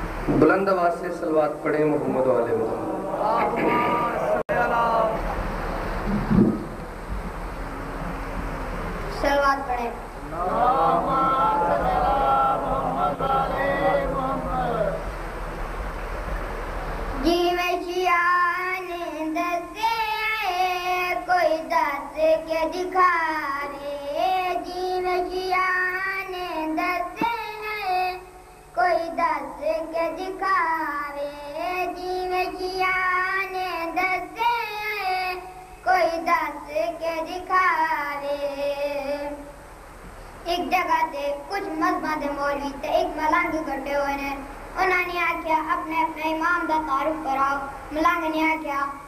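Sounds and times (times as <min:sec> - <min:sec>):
noise: 0:00.0 - 0:49.0
boy singing with long held notes: 0:02.6 - 0:05.5, 0:09.0 - 0:15.4, 0:17.1 - 0:39.6, 0:40.4 - 0:49.0.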